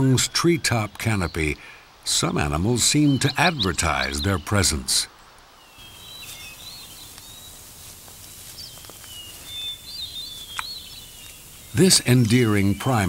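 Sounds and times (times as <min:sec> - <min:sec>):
birds chirping and warbling: 0:00.0 - 0:13.0
steady hiss: 0:00.0 - 0:13.0.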